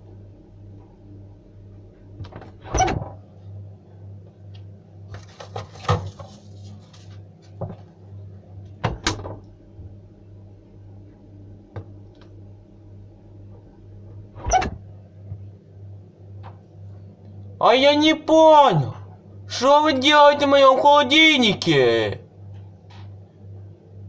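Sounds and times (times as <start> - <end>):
refrigerator low hum: 0.0 - 24.0.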